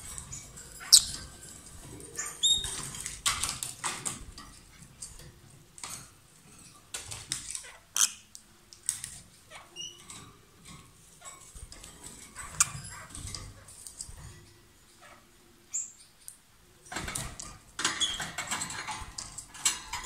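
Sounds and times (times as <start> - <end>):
lovebirds chirping and squeaking: 0.0 - 5.2, 6.9 - 16.3, 16.9 - 20.0.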